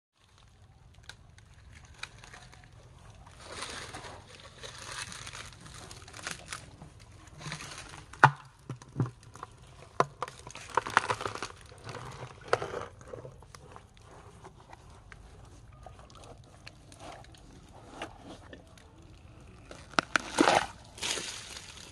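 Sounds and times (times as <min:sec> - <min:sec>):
coconut shell cracking and crunching: 0:00.2 - 0:21.9.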